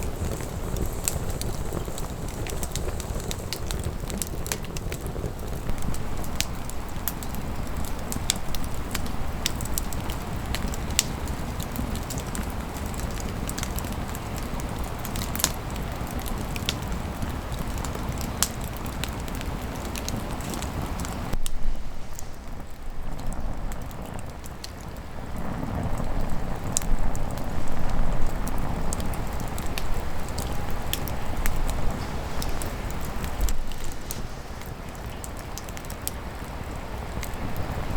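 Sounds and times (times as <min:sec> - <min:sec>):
campfire crackling and popping: 0:00.0 - 0:37.9
fire low rumble: 0:00.0 - 0:37.9.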